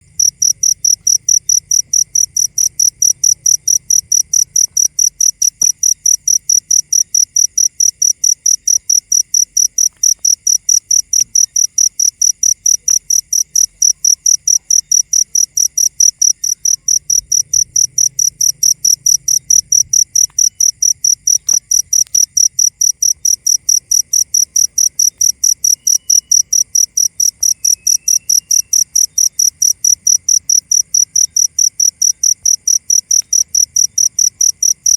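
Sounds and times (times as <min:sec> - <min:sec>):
insect chirping: 0:00.0 - 0:34.9.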